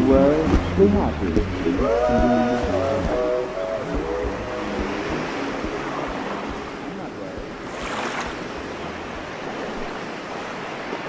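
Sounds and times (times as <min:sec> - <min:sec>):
waves washing on beach: 0:00.0 - 0:11.0.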